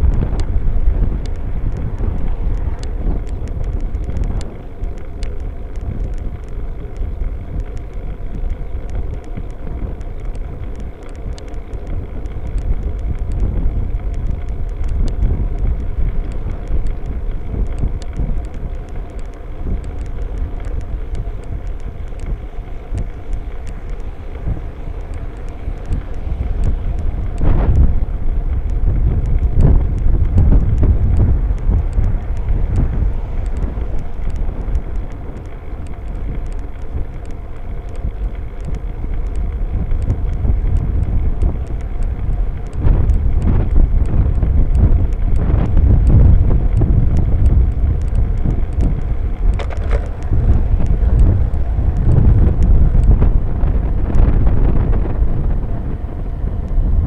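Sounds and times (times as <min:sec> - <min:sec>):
light ticks: 0:00.0 - 0:57.0
low road rumble: 0:00.0 - 0:57.0
wind buffeting microphone: 0:00.0 - 0:57.0.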